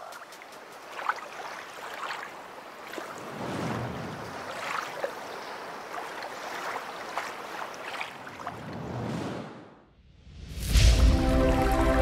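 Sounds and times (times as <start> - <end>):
waves on open water: 0.0 - 9.8, 10.7 - 12.0.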